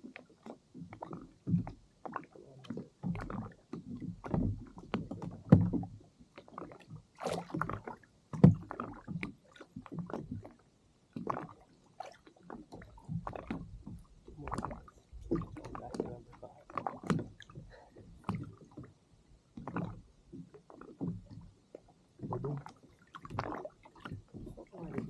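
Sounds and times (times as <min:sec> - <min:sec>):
knocks and splashes: 0:00.0 - 0:19.0, 0:19.6 - 0:25.0
water sloshing against hull: 0:00.0 - 0:25.0.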